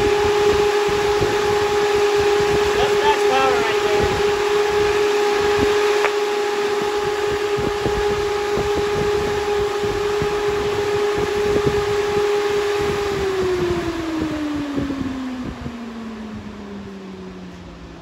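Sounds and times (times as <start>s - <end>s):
electric fan motor whine: 0.0s - 18.0s
wind gusts on microphone: 0.0s - 18.0s.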